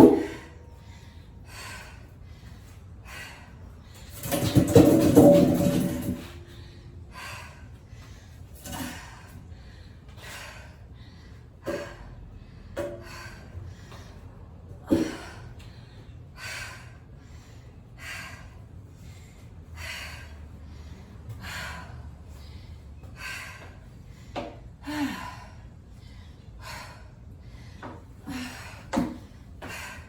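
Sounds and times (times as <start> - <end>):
woman breathing hard: 0.0 - 4.4, 6.2 - 30.0.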